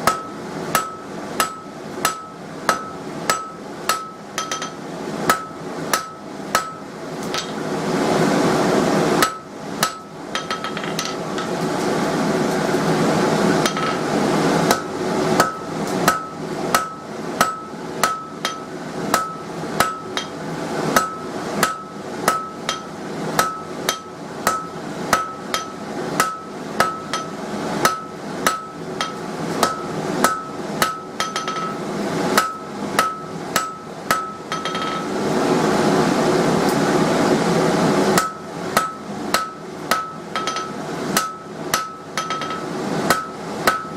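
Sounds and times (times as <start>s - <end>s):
hammer striking steel on anvil: 0.0s - 7.6s, 9.2s - 11.6s, 13.6s - 14.1s, 14.7s - 35.2s, 38.2s - 43.9s.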